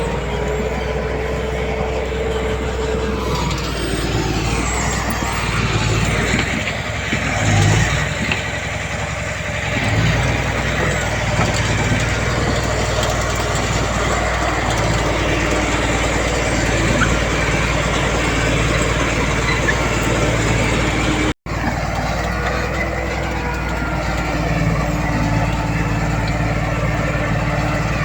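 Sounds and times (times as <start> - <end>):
diesel earthmoving machinery running: 0.0 - 28.0.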